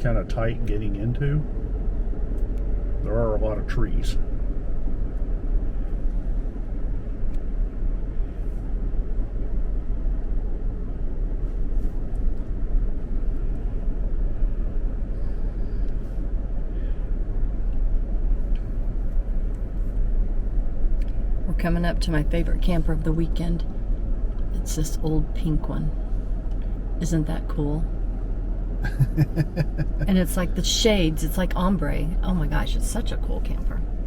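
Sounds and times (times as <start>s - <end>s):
vehicle engine and tyres rumbling: 0.0s - 34.0s.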